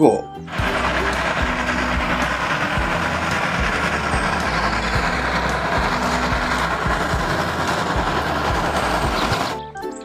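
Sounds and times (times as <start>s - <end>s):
low rhythmic thumps: 0.5s - 9.6s
steam locomotive exhaust and running gear: 0.5s - 9.6s.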